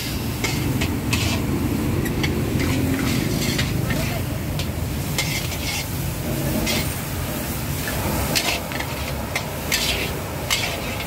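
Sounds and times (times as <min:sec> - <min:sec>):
hissing stir-fry scrapes: 0:00.0 - 0:11.0.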